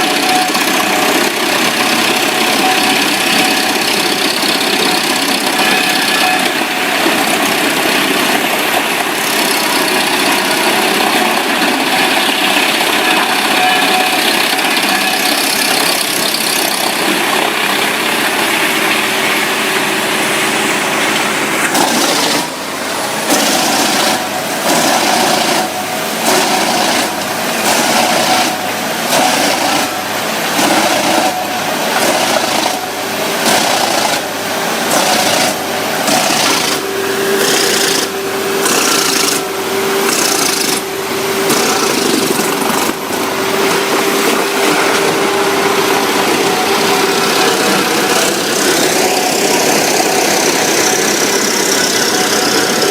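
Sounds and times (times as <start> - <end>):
wood-processing machinery running: 0.0 - 52.9.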